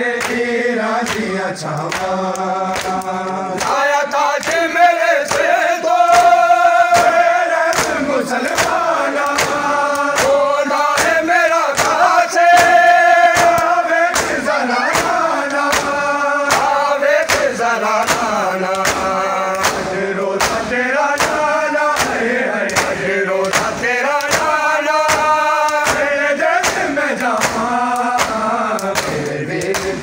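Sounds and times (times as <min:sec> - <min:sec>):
men chanting in unison: 0:00.0 - 0:30.0
hands slapping bare chests: 0:00.2 - 0:30.0.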